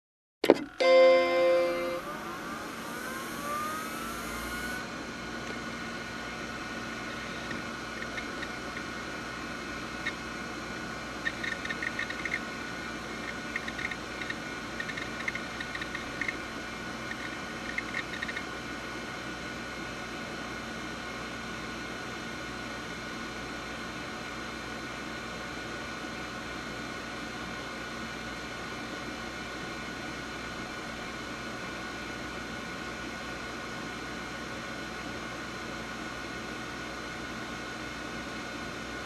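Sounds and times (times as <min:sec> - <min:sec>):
computer fan whirring: 0:00.4 - 0:39.0.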